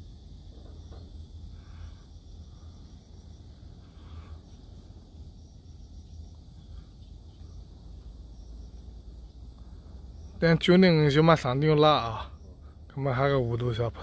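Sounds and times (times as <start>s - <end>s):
insects chirping: 0.0s - 14.0s
low steady rumble: 0.0s - 14.0s.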